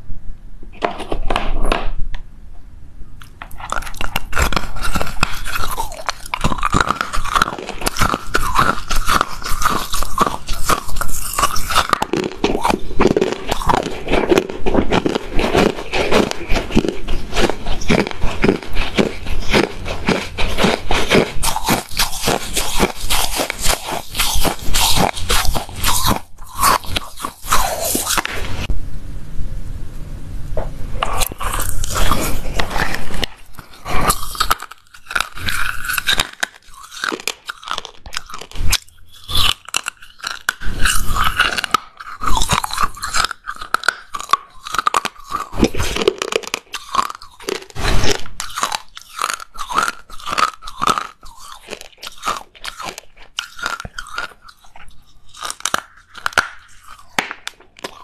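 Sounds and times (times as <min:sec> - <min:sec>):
crunchy chewing: 0:03.2 - 0:28.7, 0:31.0 - 0:58.0.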